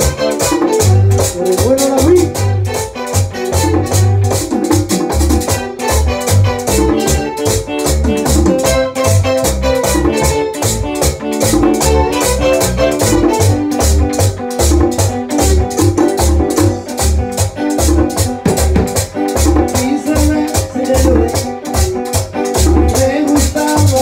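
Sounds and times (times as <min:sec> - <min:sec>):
bass guitar: 0:00.0 - 0:24.0
electric guitar: 0:00.0 - 0:24.0
quick percussion beat: 0:00.0 - 0:24.0.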